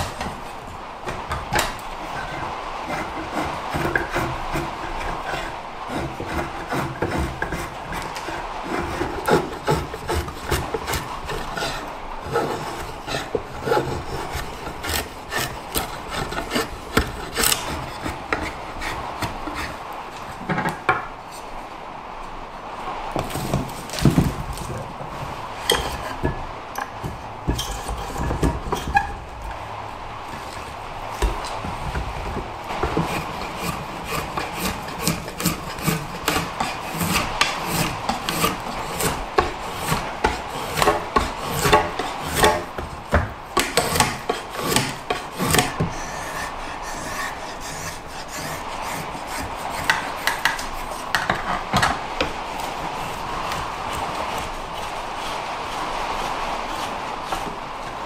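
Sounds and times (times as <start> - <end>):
drawknife scraping wood: 0.0 - 20.8, 23.2 - 29.2, 30.3 - 58.0.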